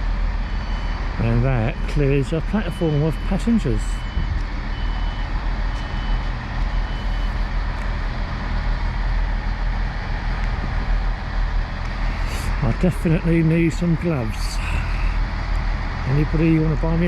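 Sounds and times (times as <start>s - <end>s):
train diesel engines rumbling: 0.0s - 17.0s.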